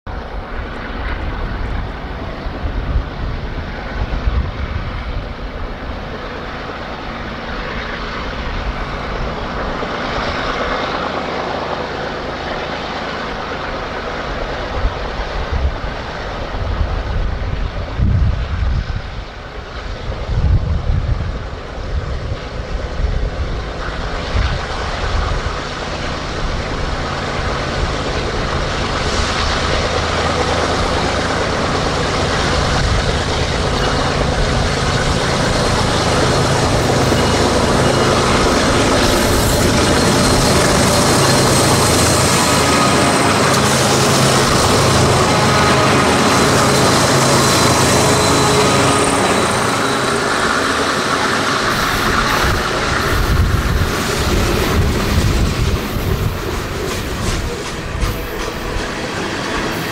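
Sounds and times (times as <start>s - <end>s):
diesel locomotive engines droning: 0.1s - 59.9s.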